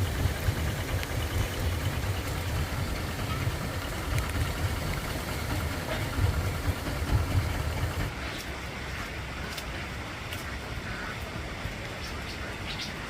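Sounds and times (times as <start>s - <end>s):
engine idling with uneven throb: 0.0s - 11.0s.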